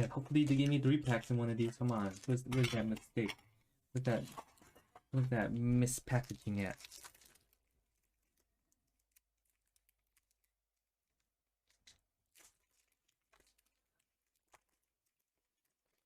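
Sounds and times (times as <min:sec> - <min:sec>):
foil wrappers crinkling: 0:00.0 - 0:03.3, 0:04.5 - 0:16.0.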